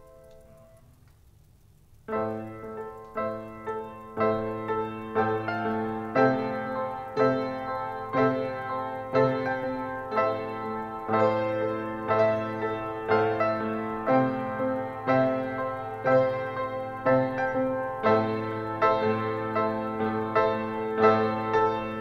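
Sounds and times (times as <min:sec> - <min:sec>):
slow piano notes and chords: 0:00.0 - 0:01.0, 0:02.0 - 0:22.0.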